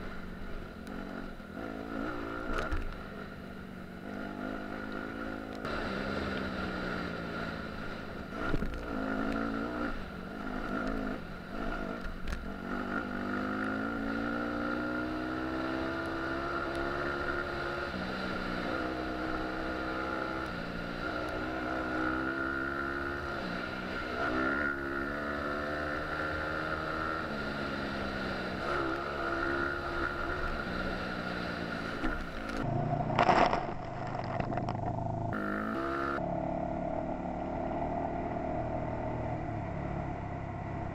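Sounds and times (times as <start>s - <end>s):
dirt bike engine revving: 0.9s - 2.8s, 4.0s - 39.4s.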